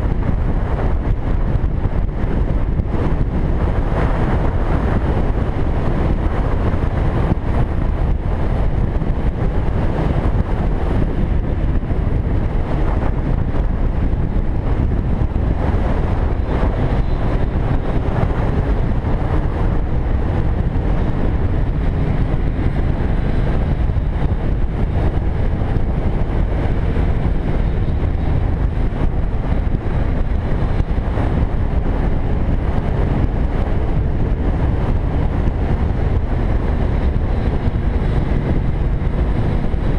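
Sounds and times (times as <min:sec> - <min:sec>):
motorcycle rumble: 0:00.0 - 0:39.9
tyres on road: 0:00.0 - 0:39.9
wind buffeting microphone: 0:00.0 - 0:39.9.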